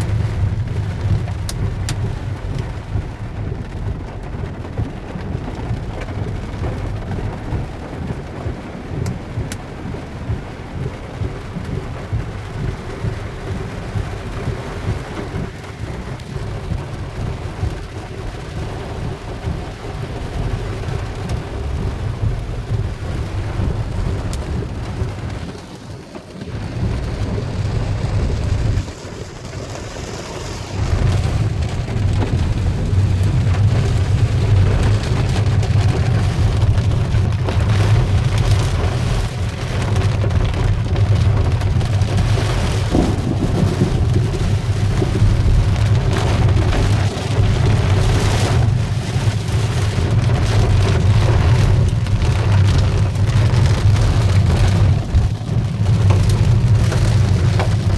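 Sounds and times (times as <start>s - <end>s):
heavy rain with hail: 0.0s - 57.9s.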